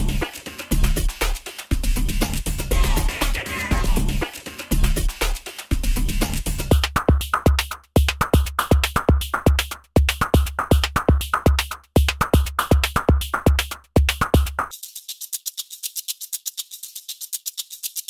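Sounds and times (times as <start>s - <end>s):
electronic music with drum machine: 0.0s - 18.0s
fast ticking rhythm: 0.0s - 18.0s.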